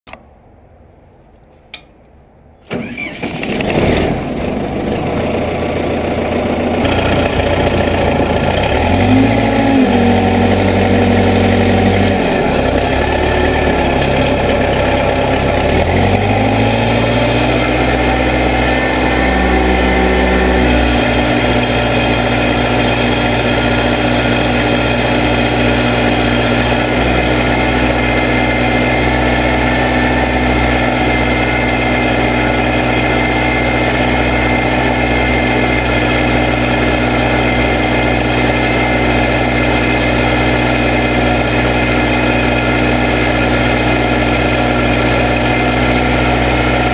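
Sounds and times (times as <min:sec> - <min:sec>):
backhoe engine cranking and running: 0:02.6 - 0:46.9.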